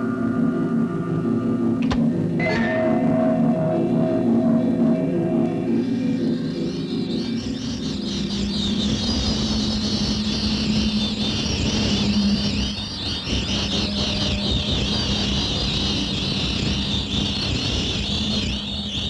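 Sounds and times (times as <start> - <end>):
low electronic rumble: 0.0 - 19.0
high warbling twitter: 2.4 - 19.0.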